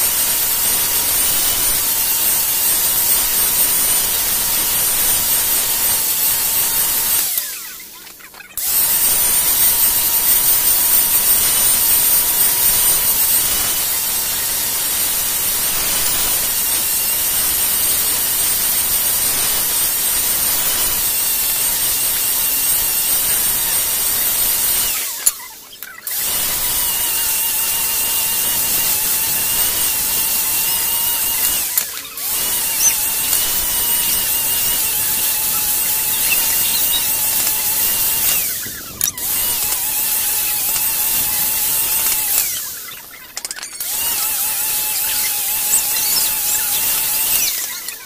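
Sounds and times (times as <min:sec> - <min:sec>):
angle grinder grinding wood: 0:00.0 - 0:48.0.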